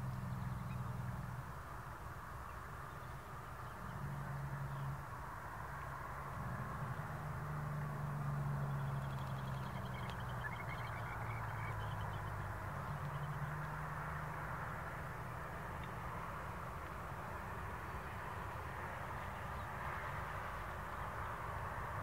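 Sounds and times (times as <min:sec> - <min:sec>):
locomotive engines droning: 0:02.9 - 0:21.5.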